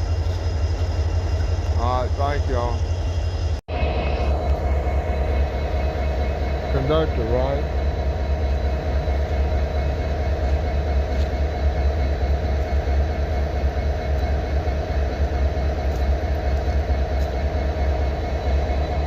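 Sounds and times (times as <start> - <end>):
locomotives idling: 0.0 - 19.0.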